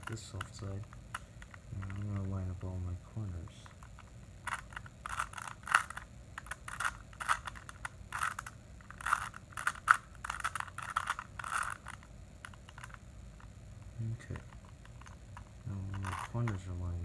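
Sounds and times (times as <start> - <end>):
plastic cube clacks: 0.0 - 2.4, 3.6 - 13.0, 13.8 - 16.7.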